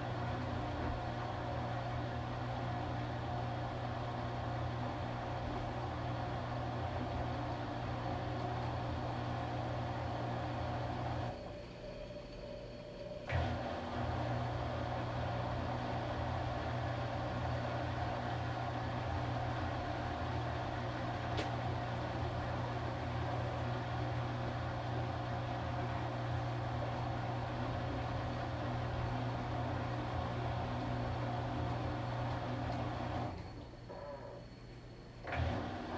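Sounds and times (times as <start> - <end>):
washing machine running: 0.0 - 34.6, 35.2 - 35.9.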